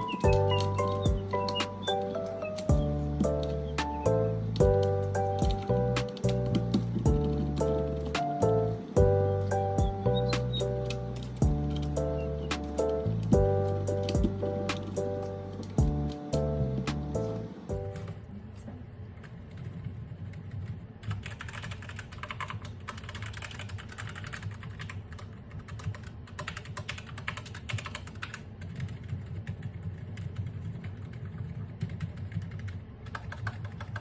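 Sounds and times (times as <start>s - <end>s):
mechanical keyboard typing: 0.0s - 18.2s, 19.2s - 34.0s.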